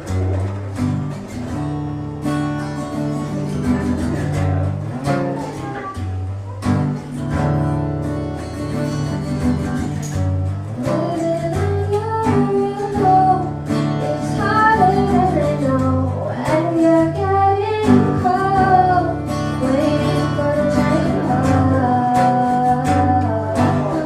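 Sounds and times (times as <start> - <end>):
guitar strumming chords: 0.0 - 24.0.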